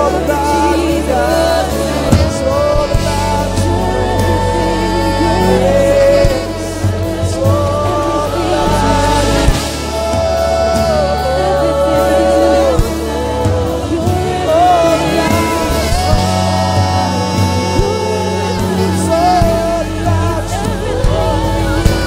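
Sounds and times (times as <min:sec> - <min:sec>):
live worship band with singing: 0:00.0 - 0:22.0.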